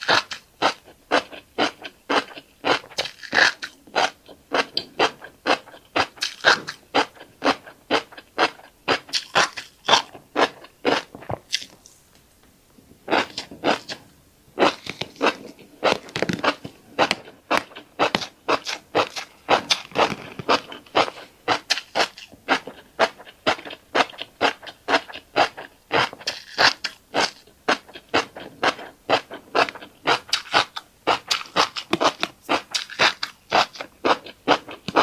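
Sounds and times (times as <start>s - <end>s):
crunchy chewing of seeds: 0.0s - 12.2s, 12.8s - 35.0s.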